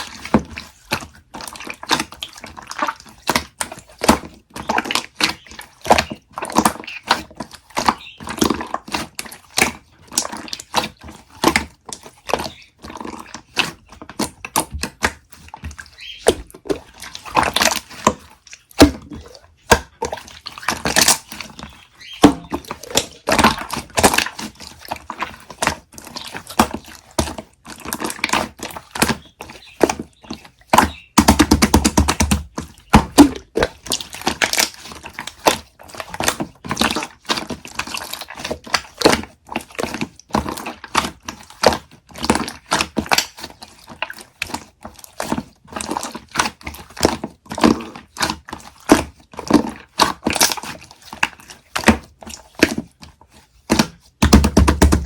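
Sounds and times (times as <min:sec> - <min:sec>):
wet clicks crackles and pops: 0:00.6 - 0:45.2.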